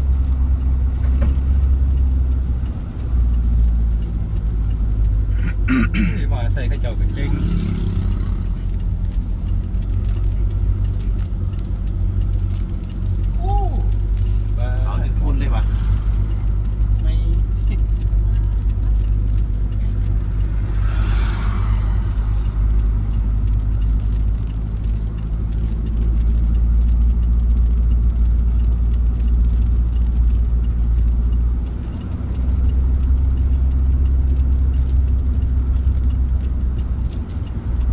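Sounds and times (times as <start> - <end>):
vehicle engine and road rumble: 0.0 - 37.9.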